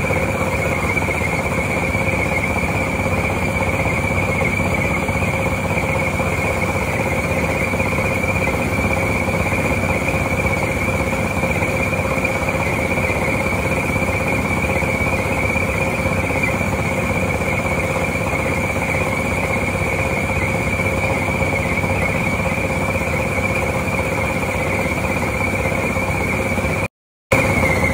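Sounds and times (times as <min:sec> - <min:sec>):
baler running with high whine: 0:00.0 - 0:27.9.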